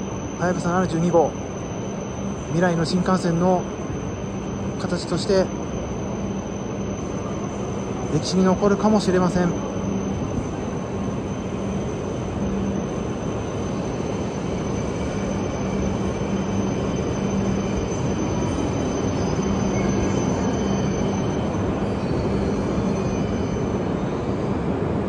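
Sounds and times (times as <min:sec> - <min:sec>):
thin high whine: 0:00.0 - 0:25.0
train running slowly: 0:00.0 - 0:25.0.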